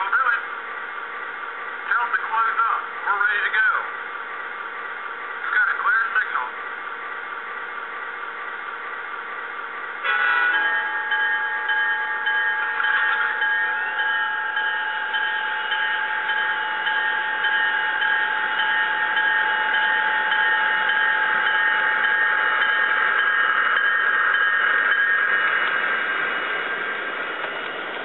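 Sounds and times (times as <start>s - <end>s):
model train whine: 0.0s - 28.0s.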